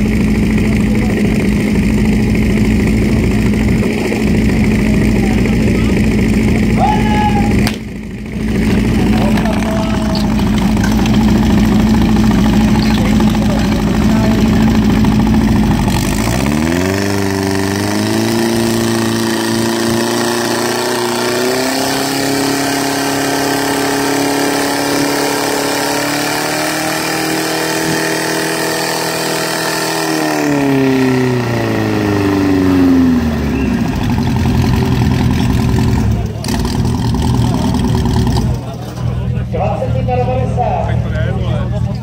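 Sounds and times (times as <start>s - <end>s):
fire pump engine revving: 0.0s - 42.0s.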